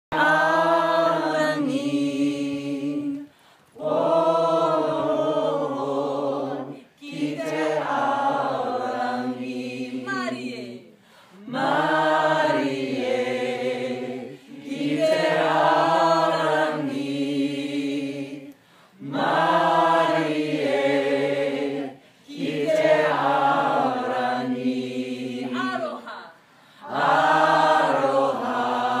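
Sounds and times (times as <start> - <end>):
mixed group singing unaccompanied: 0.1 - 29.0.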